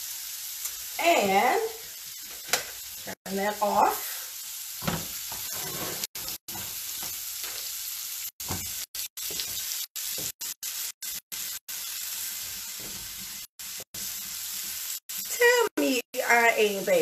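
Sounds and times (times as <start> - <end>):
shrimp sizzling in grill pan: 0.0 - 17.0.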